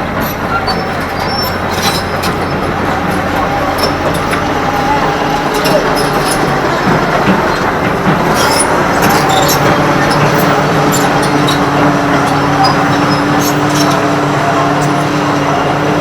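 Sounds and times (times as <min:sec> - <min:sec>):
excavator diesel engine: 0:00.0 - 0:16.0
metallic clanks and squeaks: 0:00.0 - 0:16.0
steady drone: 0:00.0 - 0:16.0.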